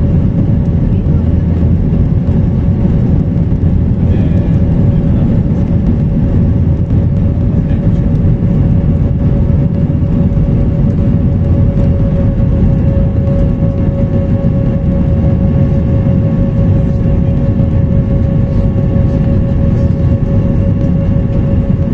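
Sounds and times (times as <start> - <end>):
constant hum: 0.0 - 21.9
jet engine and airflow drone: 0.0 - 21.9.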